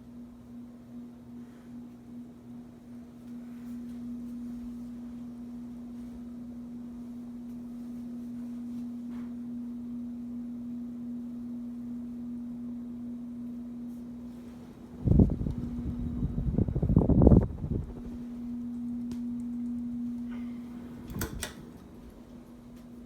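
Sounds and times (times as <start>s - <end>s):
ceiling fan motor hum: 0.0s - 23.0s.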